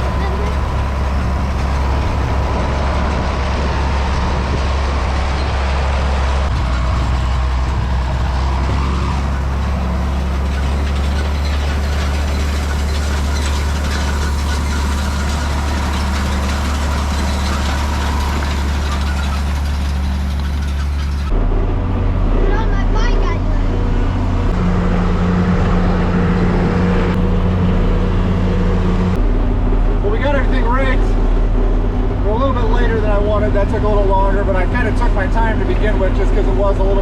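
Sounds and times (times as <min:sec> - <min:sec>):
tractor engine droning: 0:00.0 - 0:37.0.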